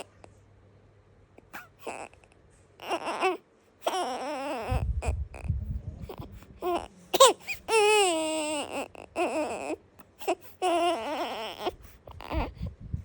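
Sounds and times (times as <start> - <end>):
newborn baby crying: 0.0 - 0.2, 1.4 - 2.2, 2.8 - 12.7.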